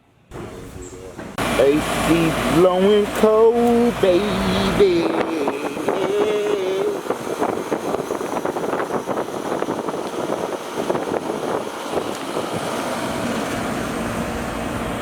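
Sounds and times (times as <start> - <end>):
air conditioner unit running: 0.2 - 15.0.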